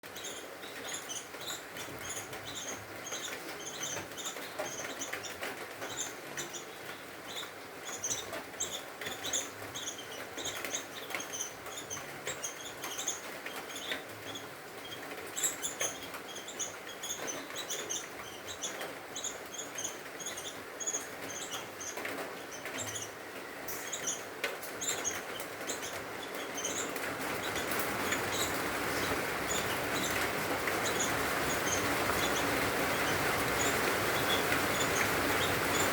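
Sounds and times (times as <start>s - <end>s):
steady background noise: 0.0s - 35.9s
nestlings cheeping: 0.1s - 35.9s.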